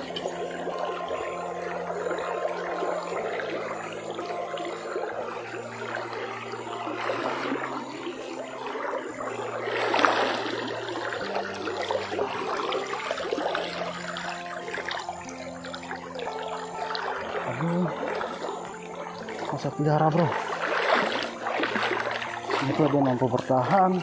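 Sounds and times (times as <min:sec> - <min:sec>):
stream rippling over stones: 0:00.0 - 0:24.0.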